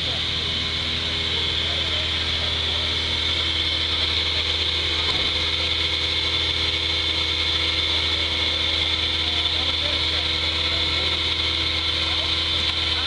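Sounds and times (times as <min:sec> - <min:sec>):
high whine: 0:00.0 - 0:13.0
truck engine at low revs: 0:00.0 - 0:13.0.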